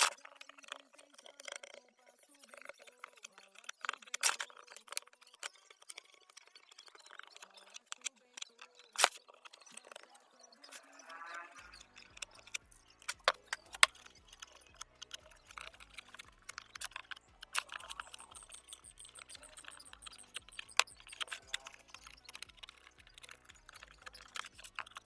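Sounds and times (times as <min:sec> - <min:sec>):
faint background music: 0:00.0 - 0:25.0.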